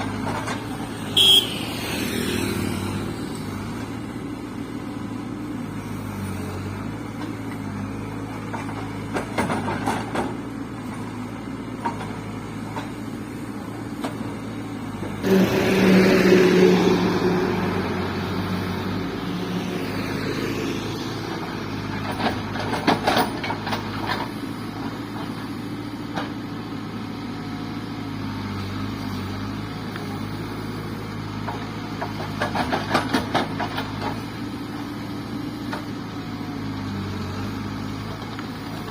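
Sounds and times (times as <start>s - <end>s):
diesel engine running and revving: 0.0s - 38.9s.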